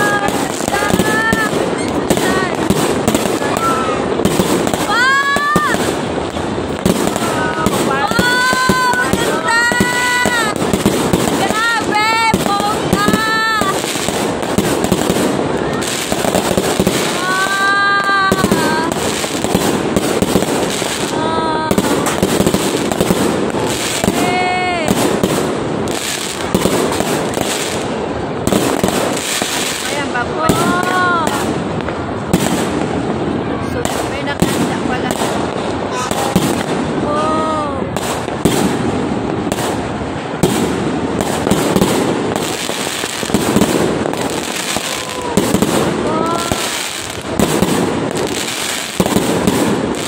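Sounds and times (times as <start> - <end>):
fireworks crackling and banging: 0.0 - 50.0
whistling fireworks: 0.0 - 50.0.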